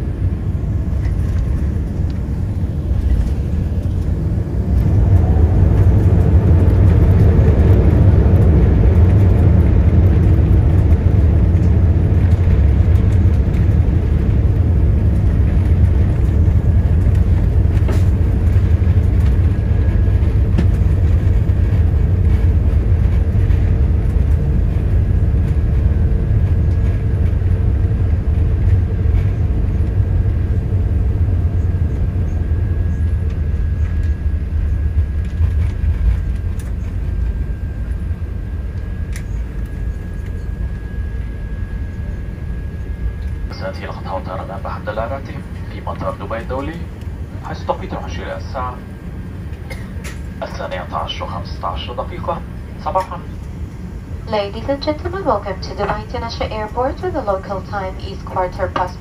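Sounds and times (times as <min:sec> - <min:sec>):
low rumble inside aircraft cabin: 0:00.0 - 0:59.0.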